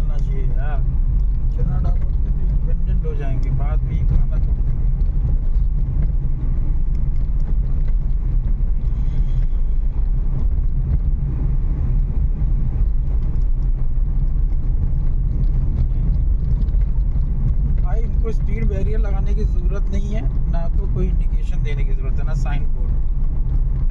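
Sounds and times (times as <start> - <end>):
engine and tyre rumble: 0.0 - 23.9.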